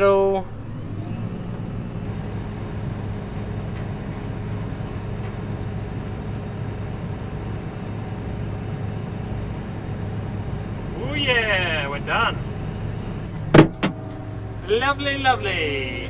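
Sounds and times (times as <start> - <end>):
combine harvester engine humming: 0.0 - 16.0.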